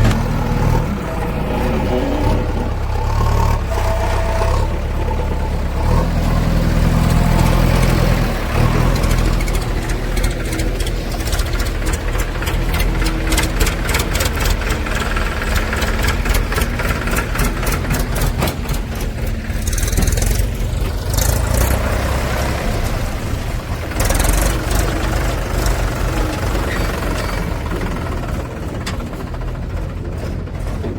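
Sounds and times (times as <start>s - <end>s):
diesel engine clattering: 0.0s - 30.9s.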